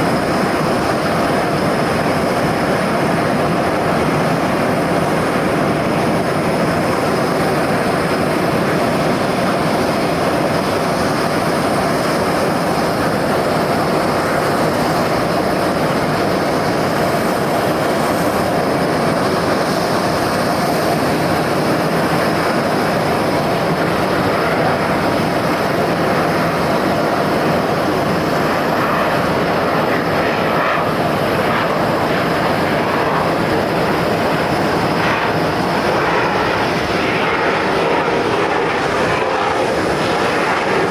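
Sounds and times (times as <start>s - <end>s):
jet engine whine: 0.0s - 40.9s
jet engines roaring: 0.0s - 40.9s.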